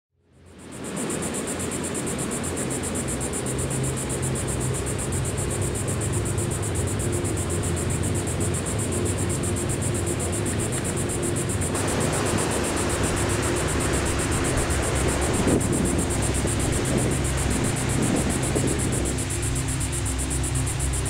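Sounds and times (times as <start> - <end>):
ambient synth pad: 0.4 - 21.0
cicada buzzing: 0.6 - 21.0.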